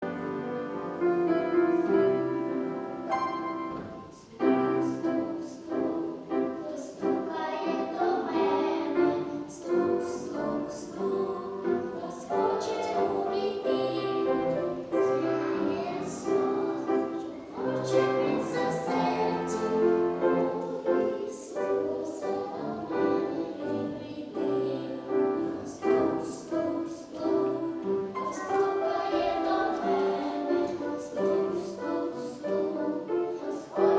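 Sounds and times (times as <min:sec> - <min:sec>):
piano accompaniment: 0:00.0 - 0:33.9
voices singing slow hymn: 0:03.7 - 0:33.9.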